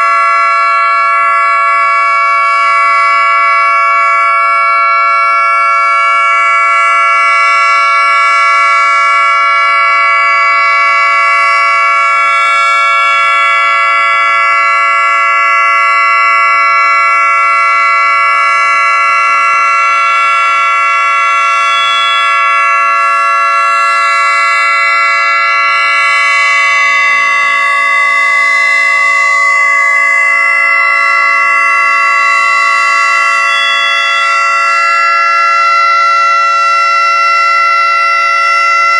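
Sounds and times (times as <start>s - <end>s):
outdoor warning siren steady chord: 0.0s - 38.9s.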